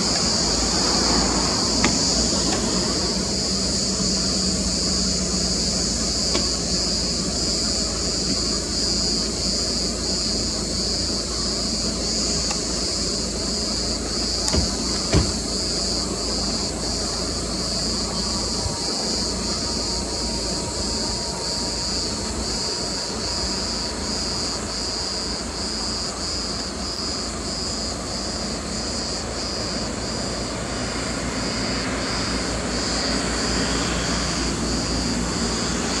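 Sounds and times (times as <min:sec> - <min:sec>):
cicadas buzzing: 0:00.0 - 0:36.0
low steady rumble: 0:00.0 - 0:36.0.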